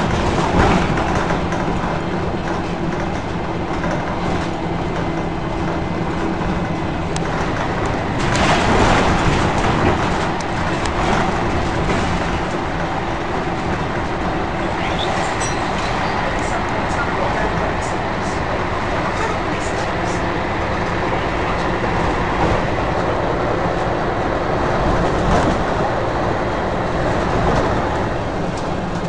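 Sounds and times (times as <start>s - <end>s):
bus body and fittings rattling: 0.0s - 29.0s
bus diesel engine running: 0.0s - 29.0s.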